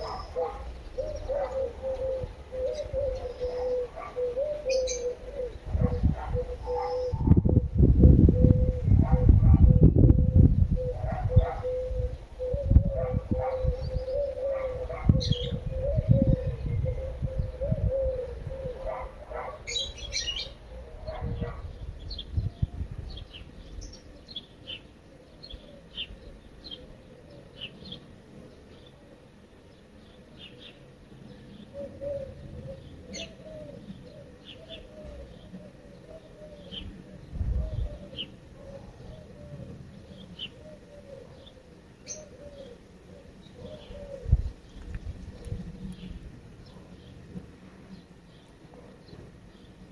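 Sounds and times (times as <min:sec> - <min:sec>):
small birds chirping: 0:00.0 - 0:07.6, 0:10.8 - 0:49.9
pigeons cooing: 0:00.0 - 0:49.9.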